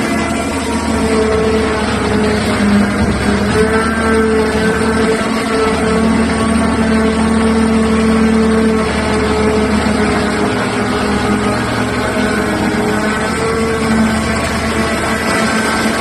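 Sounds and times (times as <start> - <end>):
excavator diesel engine drone: 0.0 - 16.0.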